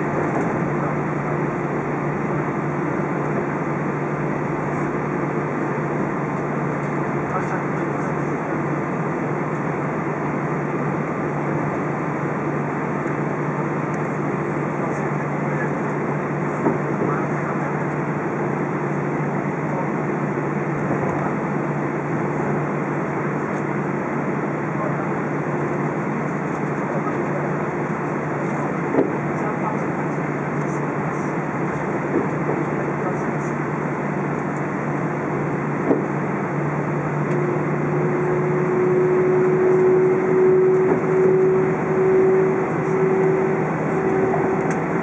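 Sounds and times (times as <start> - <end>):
aircraft cabin engine drone: 0.0 - 45.0.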